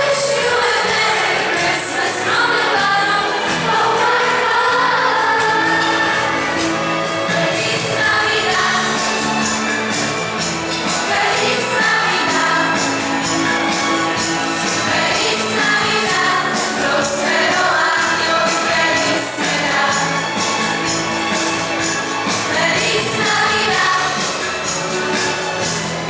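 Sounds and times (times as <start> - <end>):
choir singing a carol: 0.0 - 26.0
instrumental accompaniment: 0.0 - 26.0.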